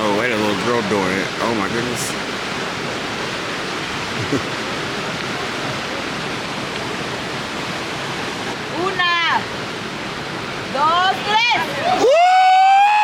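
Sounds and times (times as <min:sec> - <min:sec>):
small waterfall rushing over rocks: 0:00.0 - 0:13.0.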